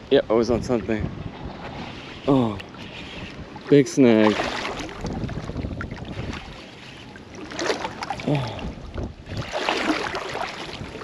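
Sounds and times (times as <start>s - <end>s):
gusty wind buffeting microphone: 0.0s - 7.4s, 8.0s - 11.0s
water splashing against shore: 0.6s - 11.0s.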